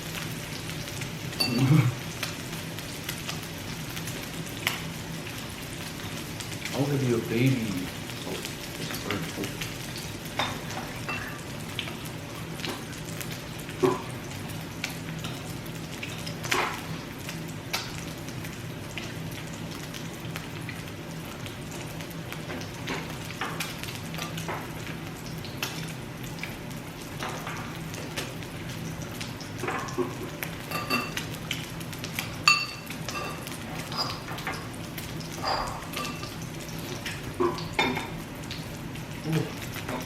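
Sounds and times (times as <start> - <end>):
meat sizzling on grill: 0.0 - 40.0.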